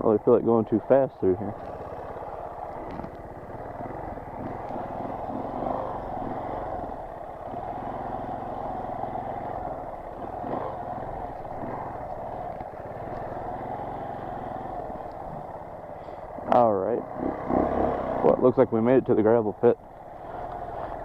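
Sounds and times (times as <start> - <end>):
motorcycle engine running slowly: 0.0 - 21.0.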